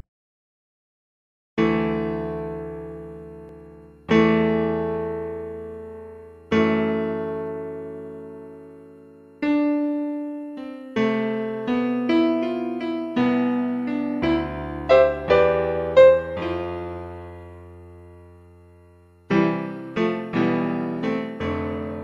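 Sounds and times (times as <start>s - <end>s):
slow solo piano: 1.6s - 22.0s.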